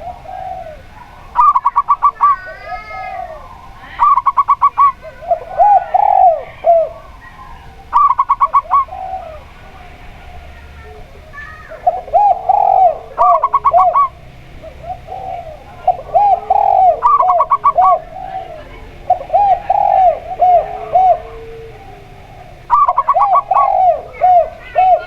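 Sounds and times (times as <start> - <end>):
doves cooing: 0.0 - 25.0.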